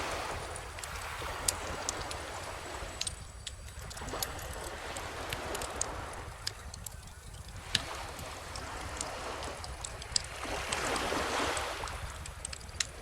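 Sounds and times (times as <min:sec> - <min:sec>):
bonfire crackling: 0:00.0 - 0:13.0
calm ocean surf: 0:00.0 - 0:13.0.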